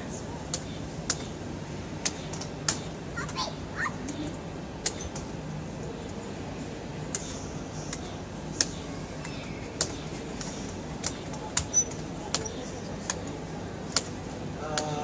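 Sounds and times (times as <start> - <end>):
steady hall hum: 0.0 - 15.0.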